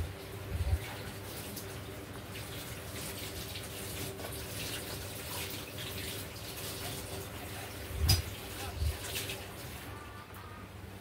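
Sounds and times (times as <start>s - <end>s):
low steady hum: 0.0s - 11.0s
water running: 0.0s - 11.0s.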